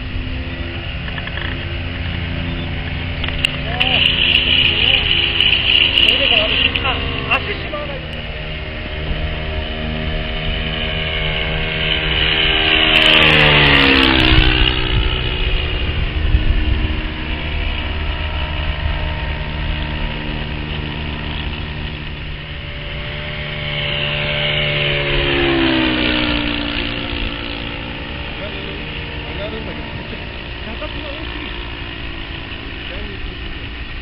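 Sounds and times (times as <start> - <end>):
model plane engine flying past: 0.0 - 34.0.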